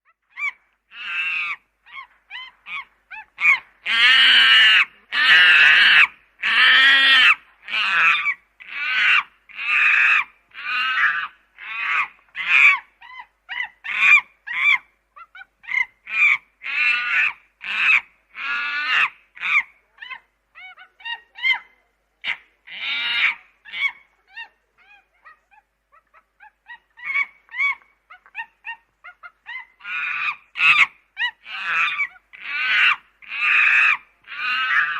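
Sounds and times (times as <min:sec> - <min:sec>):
chimpanzee calls: 0:00.2 - 0:34.9.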